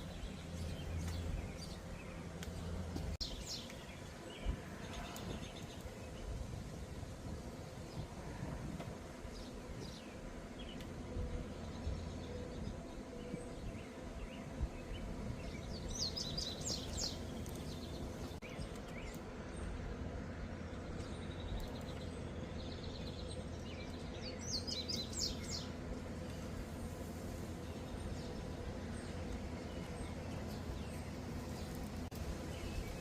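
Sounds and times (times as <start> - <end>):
low background hum: 0.0 - 33.0
songbird singing: 0.0 - 33.0.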